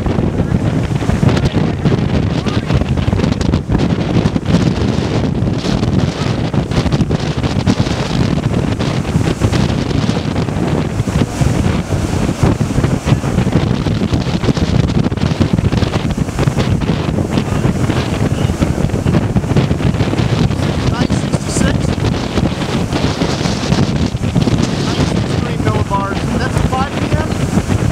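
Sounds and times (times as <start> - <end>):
gusty wind buffeting microphone: 0.0 - 27.9
storm surf breaking: 0.0 - 27.9.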